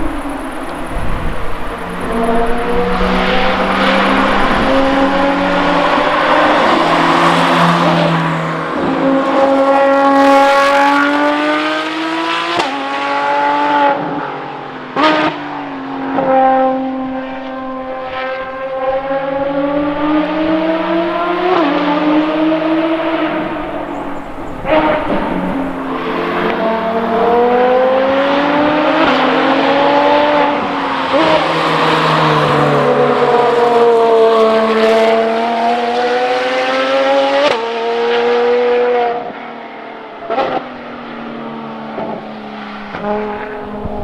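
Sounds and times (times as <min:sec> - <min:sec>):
race car engines accelerating: 0:00.0 - 0:44.0.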